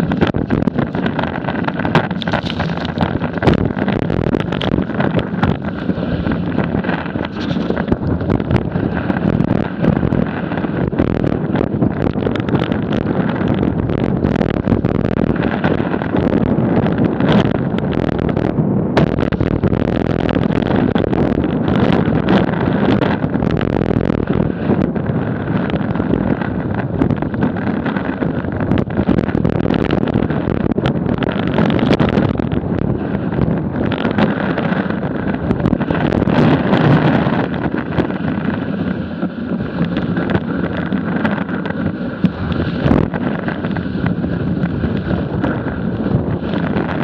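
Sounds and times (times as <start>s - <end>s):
snowboard scraping over snow: 0.0s - 47.0s
wind rushing on microphone: 0.0s - 47.0s.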